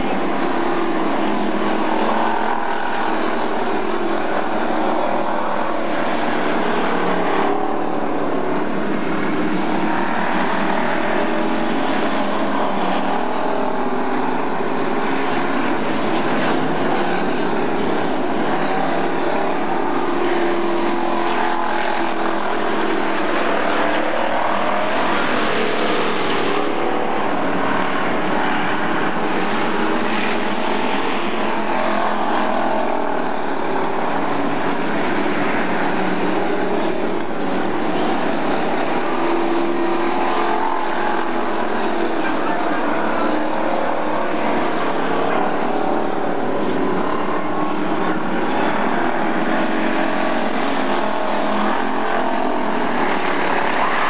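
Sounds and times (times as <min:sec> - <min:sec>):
race car engines droning: 0:00.0 - 0:54.0.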